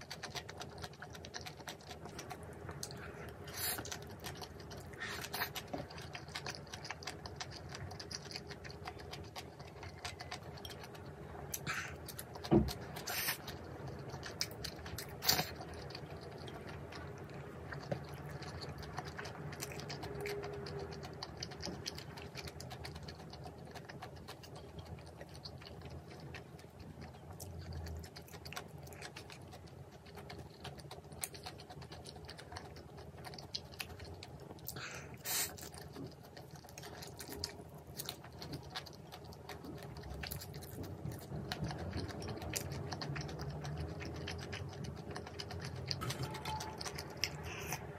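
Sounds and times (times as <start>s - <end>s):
chewing with small clicks: 0.0s - 47.9s.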